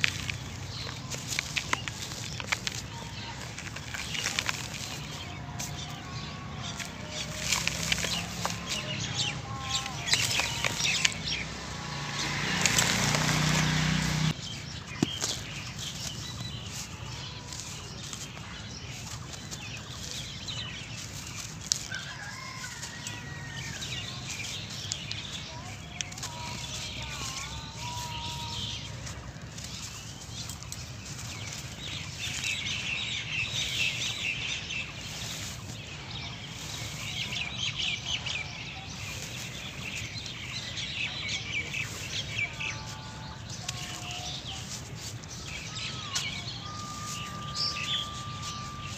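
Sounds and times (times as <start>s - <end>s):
bird calls: 0.0s - 48.9s
chunks crunching and grit trickling: 0.0s - 48.9s
gritty sand pouring and crackling: 0.0s - 48.9s.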